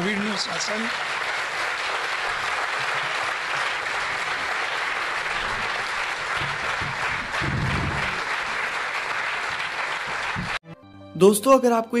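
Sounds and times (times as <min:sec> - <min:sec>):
audience clapping: 0:00.0 - 0:10.6.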